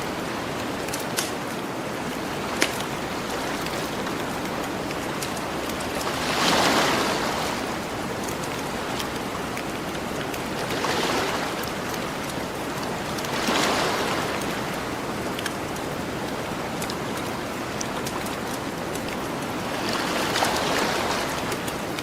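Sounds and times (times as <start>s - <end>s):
campfire crackles: 0.0s - 22.0s
ocean waves washing onto shore: 0.0s - 22.0s.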